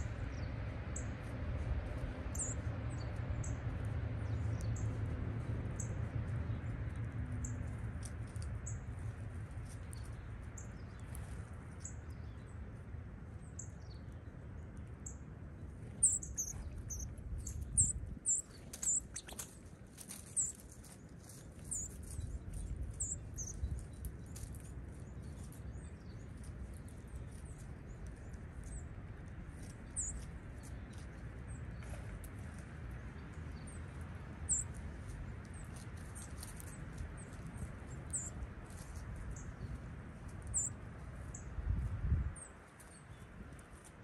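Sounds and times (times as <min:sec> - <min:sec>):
low steady background rumble: 0:00.0 - 0:44.0
small songbirds chirping: 0:00.0 - 0:44.0.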